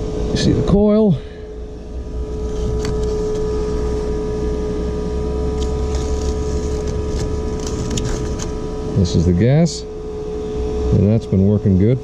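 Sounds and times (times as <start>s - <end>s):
vent fan humming: 0.0s - 12.0s.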